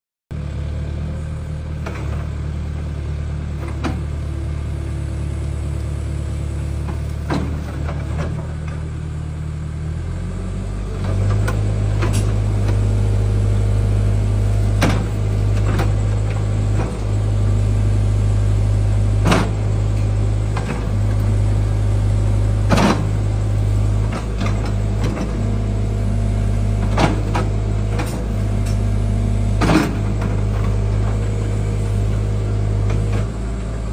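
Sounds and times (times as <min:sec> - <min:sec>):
excavator diesel engine running: 0:00.3 - 0:33.9.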